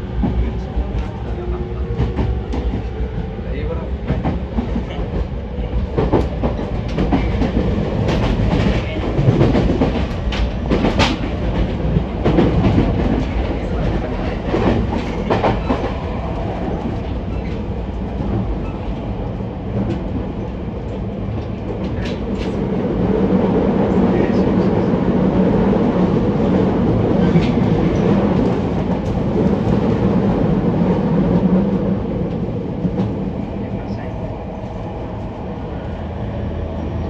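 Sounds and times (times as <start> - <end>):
train running rumble: 0.0 - 37.0.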